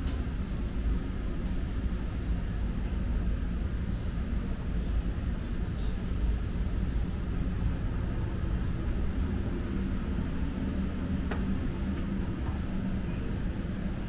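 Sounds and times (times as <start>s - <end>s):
city traffic rumble: 0.0s - 14.0s
faint steady hum: 0.0s - 14.0s.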